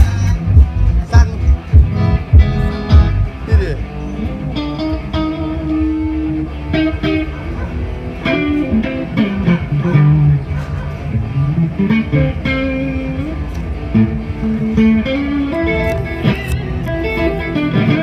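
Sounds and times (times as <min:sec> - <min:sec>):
bass guitar: 0:00.0 - 0:18.0
electric guitar playing melodic lines: 0:00.0 - 0:18.0.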